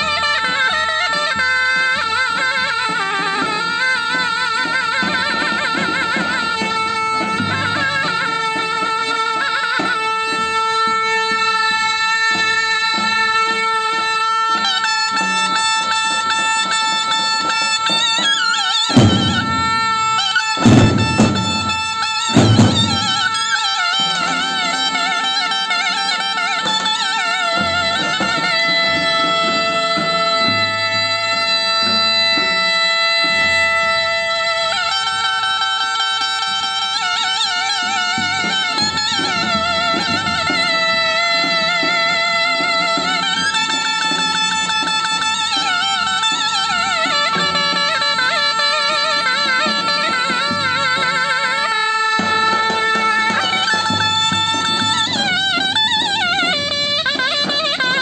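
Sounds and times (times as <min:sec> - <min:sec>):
heavy drum strokes: 0:00.0 - 0:35.6, 0:36.2 - 0:58.0
zurnas playing folk tune: 0:00.0 - 0:58.0.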